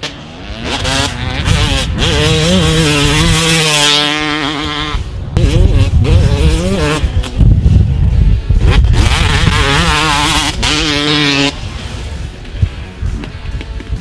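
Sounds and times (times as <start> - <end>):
motocross engine revving: 0.0 - 8.0, 8.6 - 12.4.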